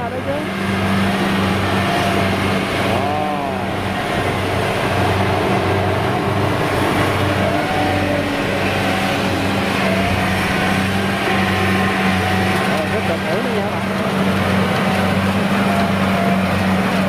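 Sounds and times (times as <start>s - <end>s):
combine harvester diesel engine running: 0.0s - 17.0s.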